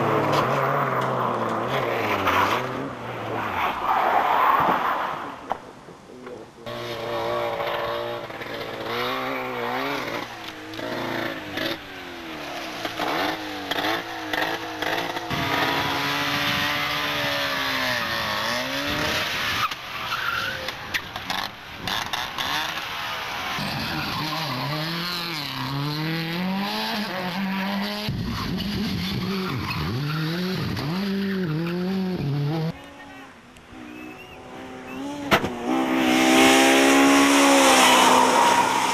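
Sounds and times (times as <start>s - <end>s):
rally car engines revving: 0.0s - 38.9s
tyres skidding: 0.0s - 38.9s.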